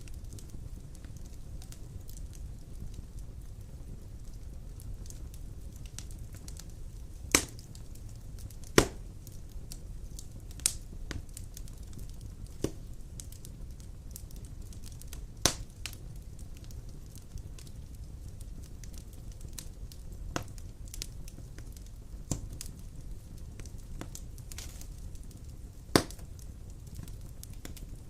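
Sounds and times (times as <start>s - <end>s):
logs burning with low rumble: 0.0s - 28.0s
wood crackling and popping: 0.0s - 28.0s.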